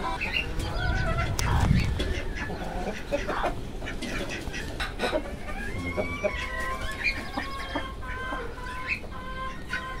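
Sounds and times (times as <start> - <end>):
hen and chicks calling: 0.0 - 10.0.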